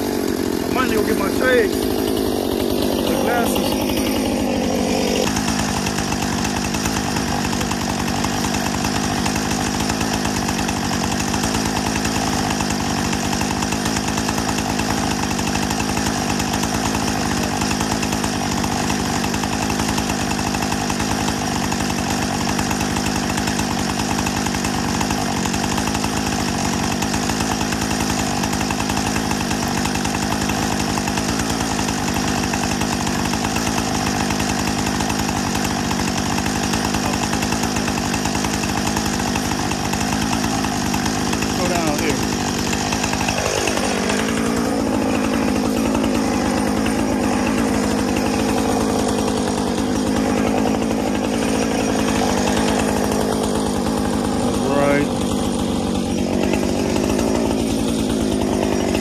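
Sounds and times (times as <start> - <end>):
chainsaw running: 0.0 - 59.0.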